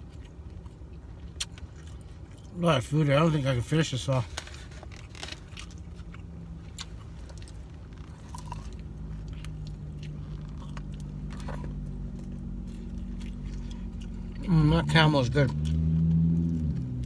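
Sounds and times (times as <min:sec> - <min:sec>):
chewing and biting food: 0:00.0 - 0:02.6, 0:04.7 - 0:14.4, 0:15.5 - 0:17.0
steady low hum: 0:00.0 - 0:17.0.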